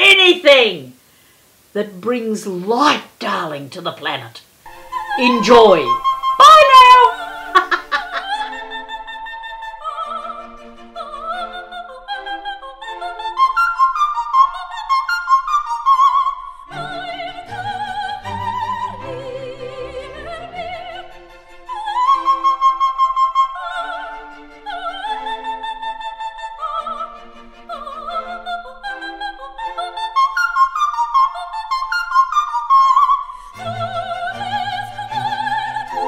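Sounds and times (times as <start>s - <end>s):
opera-style classical music: 4.7s - 36.0s.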